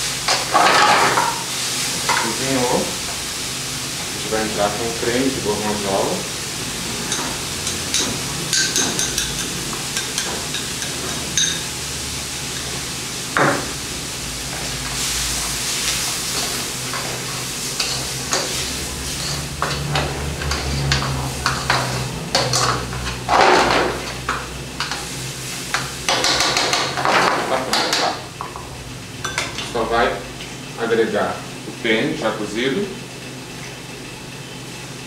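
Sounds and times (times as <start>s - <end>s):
food sizzling: 0.0s - 30.9s.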